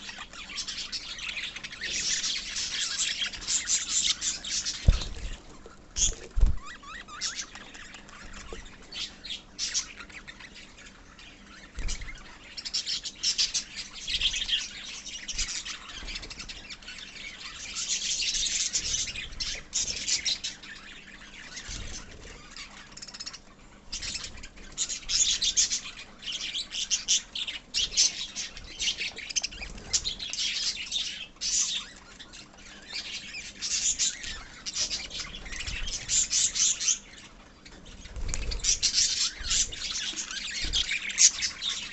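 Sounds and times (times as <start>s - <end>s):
lovebirds chirping: 0.0s - 41.9s.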